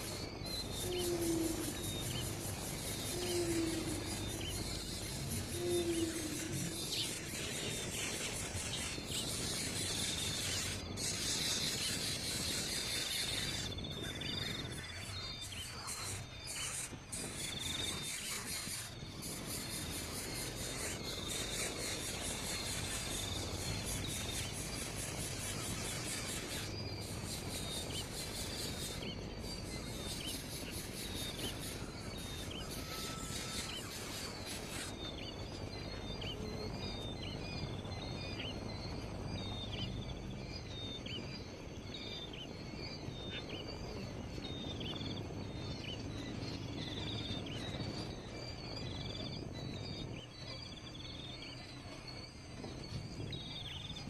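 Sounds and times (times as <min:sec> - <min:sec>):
insects buzzing: 0:00.0 - 0:54.0
small birds chirping: 0:00.0 - 0:54.0.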